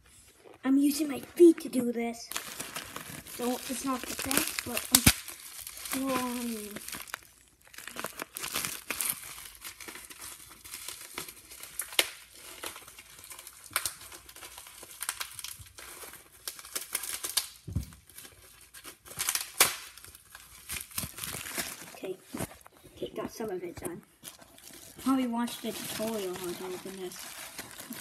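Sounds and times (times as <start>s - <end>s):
bubble wrap crinkling and snapping: 0.0s - 28.0s.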